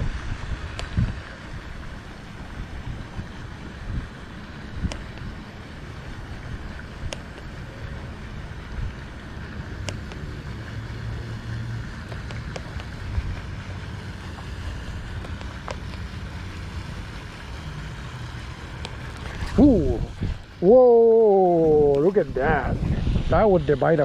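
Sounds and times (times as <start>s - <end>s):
outdoor background noise: 0.0s - 24.0s
wind rumbling on microphone: 0.0s - 24.0s.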